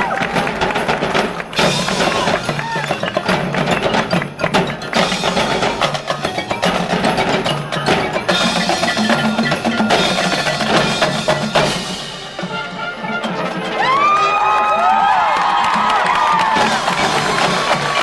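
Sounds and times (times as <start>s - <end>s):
drums: 0.0s - 18.0s
mallet instruments striking rapidly: 0.0s - 18.0s
marching band music: 0.0s - 18.0s.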